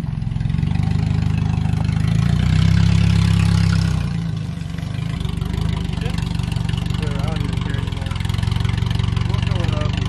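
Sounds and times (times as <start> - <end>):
pickup truck engine idling: 0.0 - 10.0.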